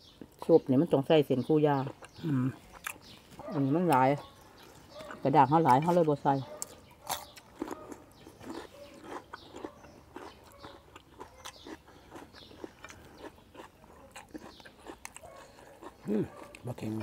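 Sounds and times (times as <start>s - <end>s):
people chewing crunchy food: 0.0s - 17.0s.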